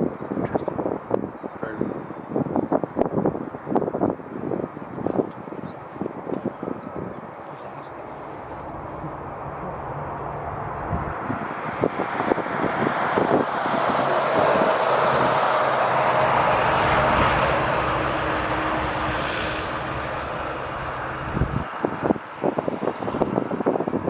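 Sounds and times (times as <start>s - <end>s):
jet engines roaring: 0.0s - 24.0s
wind buffeting microphone: 0.0s - 24.0s.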